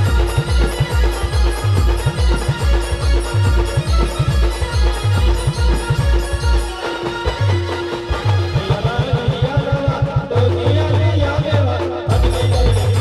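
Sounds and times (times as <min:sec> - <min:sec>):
band playing dance tune: 0:00.0 - 0:13.0
heavy drum beat: 0:00.0 - 0:13.0.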